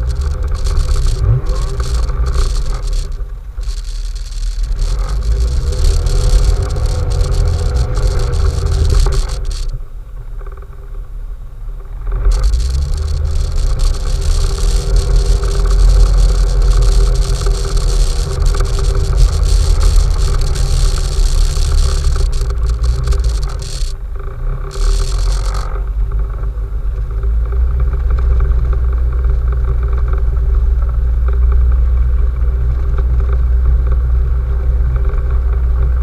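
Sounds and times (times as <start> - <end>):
off-road vehicle engine rumbling: 0.0 - 36.0.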